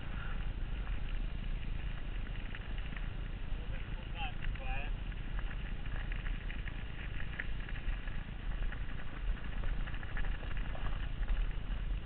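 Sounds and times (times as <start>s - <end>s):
bike ticks and rattles: 0.0s - 12.0s
bike tyres crunching on gravel: 0.0s - 12.0s.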